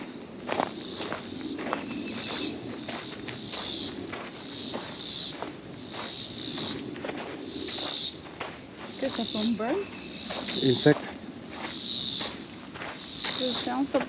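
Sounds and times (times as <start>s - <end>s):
faint footsteps on trail: 0.0s - 14.0s
insect buzzing calls: 0.0s - 14.0s.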